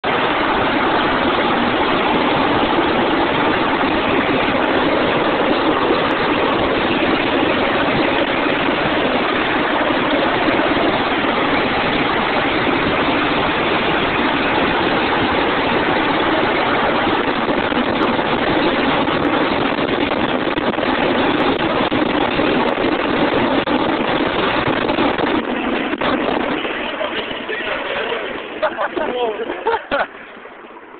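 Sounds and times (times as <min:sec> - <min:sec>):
helicopter engines and rotor: 0:00.0 - 0:30.9.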